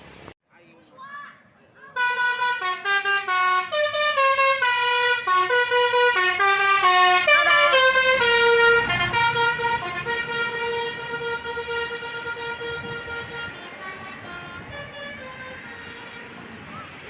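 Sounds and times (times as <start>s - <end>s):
musical air horn melody: 2.0s - 16.5s.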